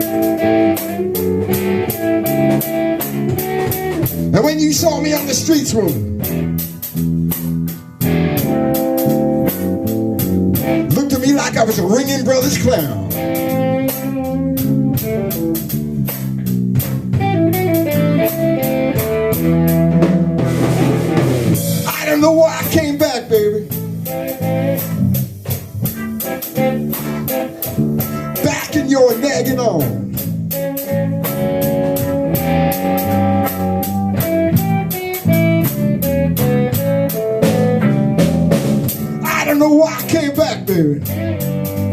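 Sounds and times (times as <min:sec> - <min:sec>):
bass guitar: 0:00.0 - 0:41.9
blues band playing: 0:00.0 - 0:41.9
drum kit steady beat: 0:00.0 - 0:41.9
electric guitar: 0:00.0 - 0:41.9.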